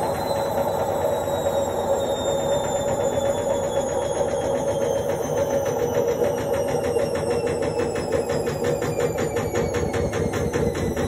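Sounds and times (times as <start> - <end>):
motor whine: 0.0 - 11.0
washing machine drum spinning: 0.0 - 11.0.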